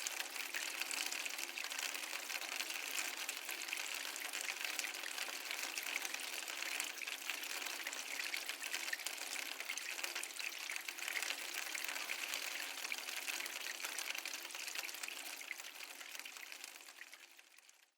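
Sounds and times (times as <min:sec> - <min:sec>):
water flowing: 0:02.8 - 0:17.4.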